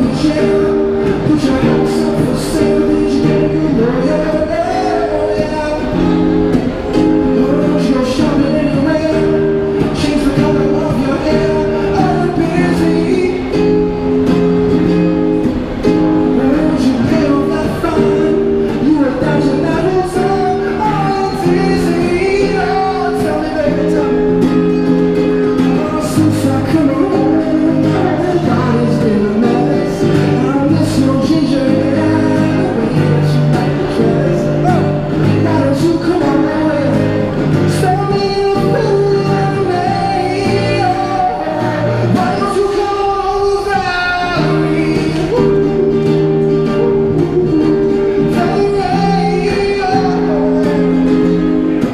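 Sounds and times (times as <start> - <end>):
acoustic guitar strumming: 0.0 - 51.9
man singing: 0.0 - 51.9.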